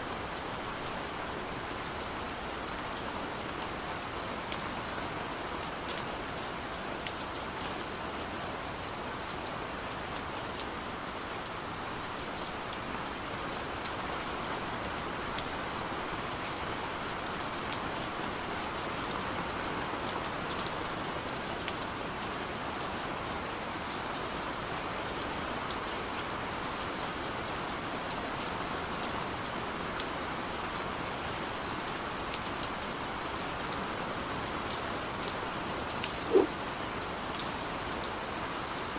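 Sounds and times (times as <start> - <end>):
gentle rain hiss: 0.0 - 38.9.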